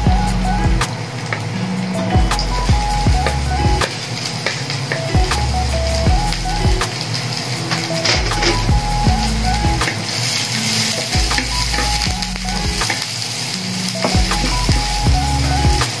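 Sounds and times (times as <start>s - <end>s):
background music: 0.0s - 16.0s
onion sizzling in oil: 0.0s - 16.0s.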